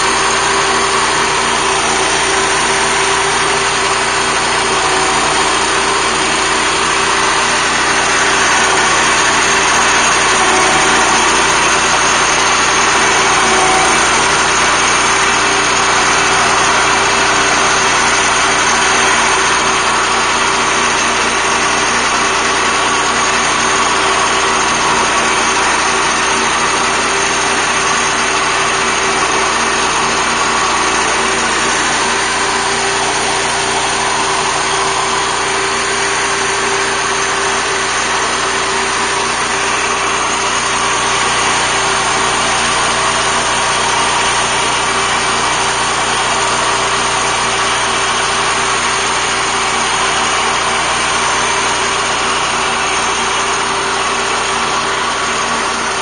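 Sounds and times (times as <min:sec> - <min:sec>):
walk-behind tractor engine running: 0:00.0 - 0:56.0.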